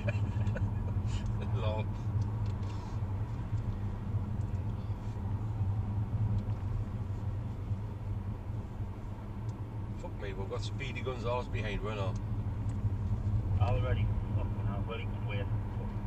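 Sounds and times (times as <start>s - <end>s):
car engine and tyre drone: 0.0s - 16.0s.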